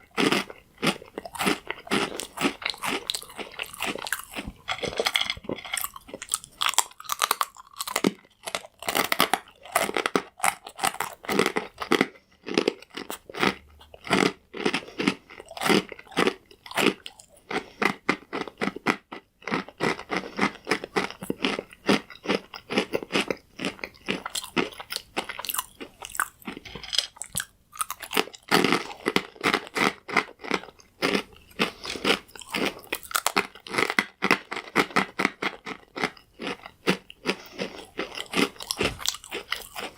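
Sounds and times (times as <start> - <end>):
chewing crunchy croutons: 0.0 - 39.9.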